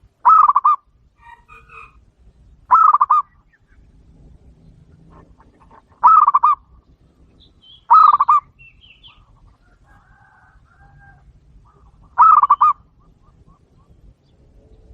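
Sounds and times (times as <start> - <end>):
doves cooing: 0.0 - 14.9.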